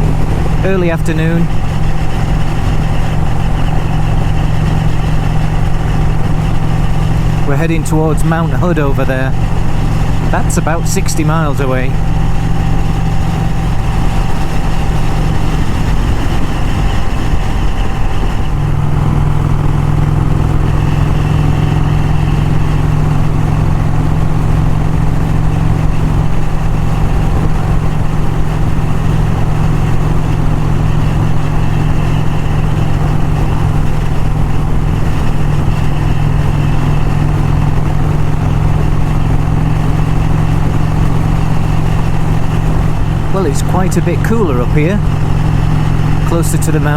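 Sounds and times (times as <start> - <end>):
motorcycle engine cruising: 0.0 - 46.9
riding wind noise: 0.0 - 46.9.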